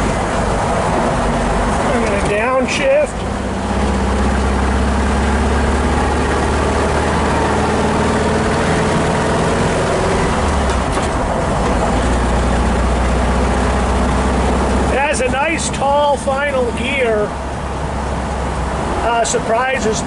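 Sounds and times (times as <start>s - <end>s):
car engine droning while driving: 0.0s - 20.0s.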